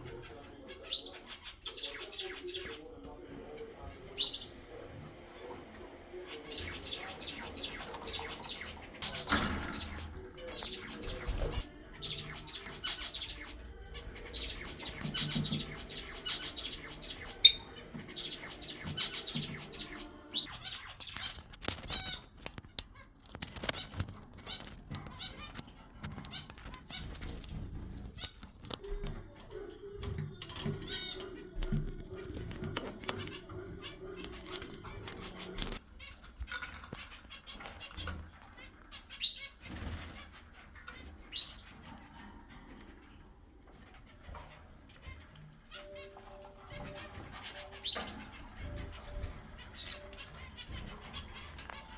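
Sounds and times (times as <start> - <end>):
parrots chattering: 0.0 - 51.9.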